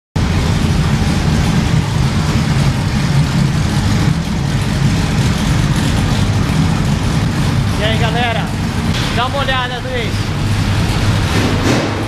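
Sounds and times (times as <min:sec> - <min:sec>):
stock car engine running: 0:00.2 - 0:12.0.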